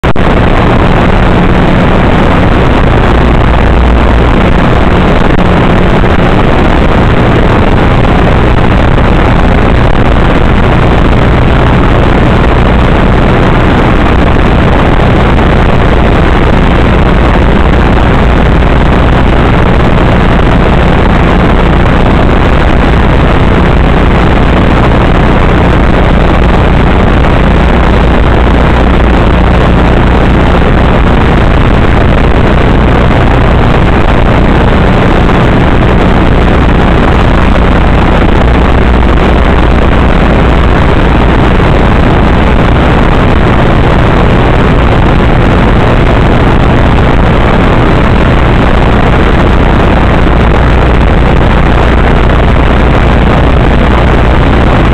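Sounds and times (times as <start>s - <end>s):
loud static hiss: 0.0s - 54.9s
low hum: 0.0s - 54.9s.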